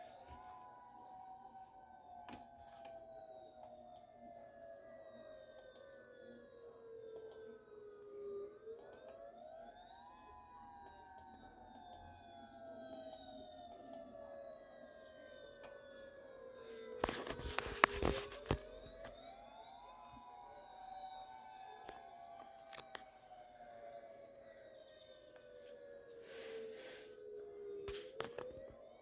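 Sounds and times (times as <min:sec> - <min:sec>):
faint warning siren wailing: 0:00.0 - 0:29.0.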